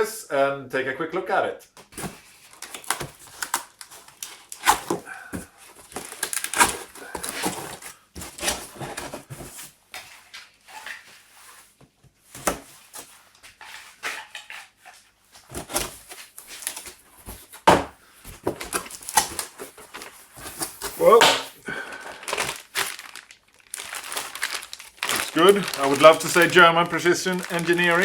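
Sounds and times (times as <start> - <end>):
cardboard box rustling and scraping: 2.0 - 11.8, 12.6 - 21.2, 23.9 - 28.0.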